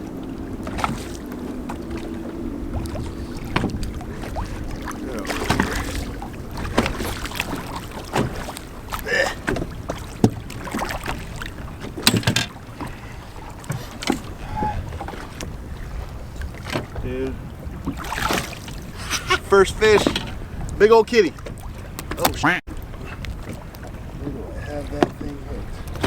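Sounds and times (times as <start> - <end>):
knocks and clatter in boat: 0.0 - 26.0
wind and water noise: 0.0 - 26.0.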